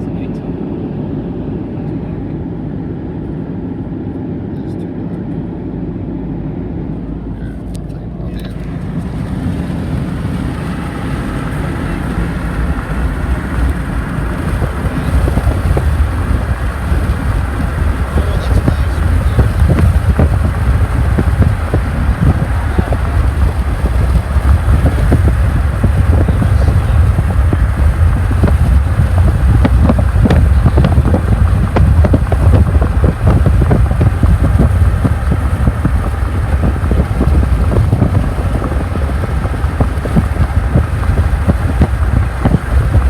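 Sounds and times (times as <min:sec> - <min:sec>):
car road rumble: 0:00.0 - 0:43.0
wind buffeting microphone: 0:08.5 - 0:43.0.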